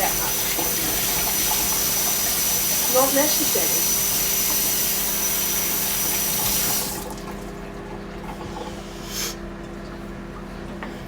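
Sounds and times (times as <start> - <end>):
kitchen tap running: 0.0 - 9.4
microwave humming: 0.0 - 11.0.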